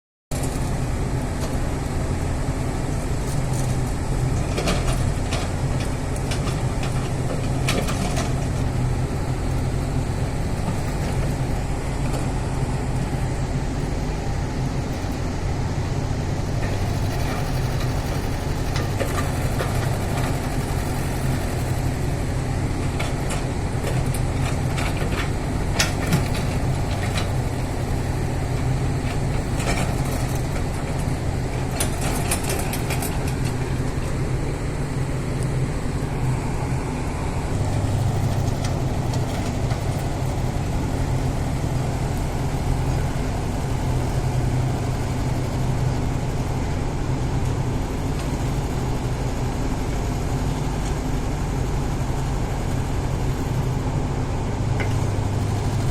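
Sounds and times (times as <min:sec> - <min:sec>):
excavator diesel engine running: 0:00.3 - 0:55.9.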